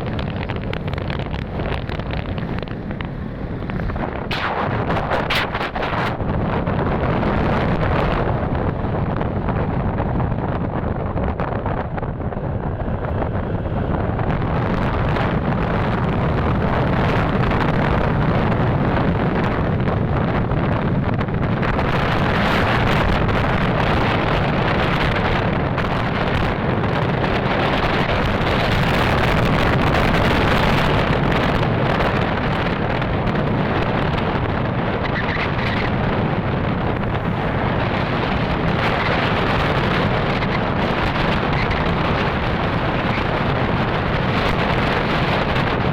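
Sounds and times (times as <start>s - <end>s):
motorcycle engine rumble: 0.0s - 45.9s
road noise: 0.0s - 45.9s
wind rushing over microphone: 0.0s - 45.9s.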